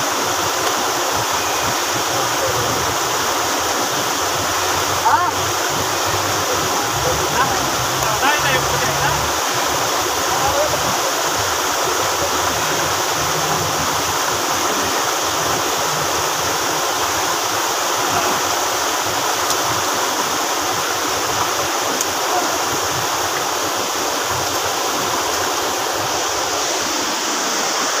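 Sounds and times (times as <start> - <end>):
stream rushing over boulders: 0.0 - 28.0.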